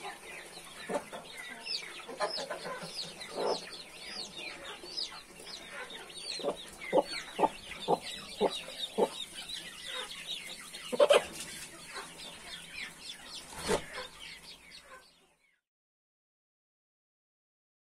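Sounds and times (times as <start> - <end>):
hen clucking: 0.0 - 15.2
chicks peeping: 0.0 - 15.6.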